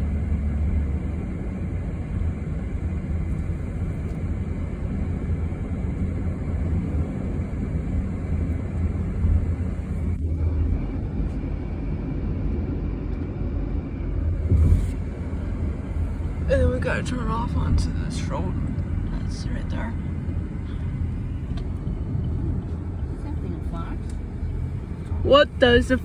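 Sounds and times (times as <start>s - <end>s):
car cabin road rumble: 0.0s - 26.0s.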